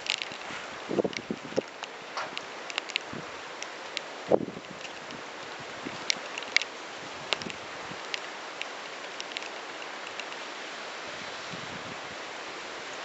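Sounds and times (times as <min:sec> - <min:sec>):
wind through foliage: 0:00.0 - 0:13.0.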